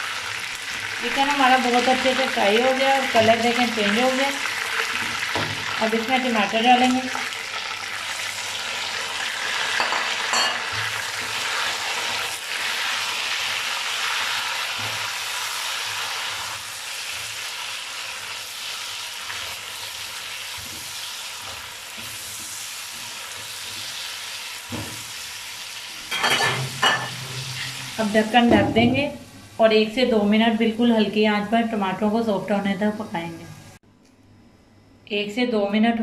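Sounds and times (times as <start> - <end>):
frying hiss: 0.0 - 33.4.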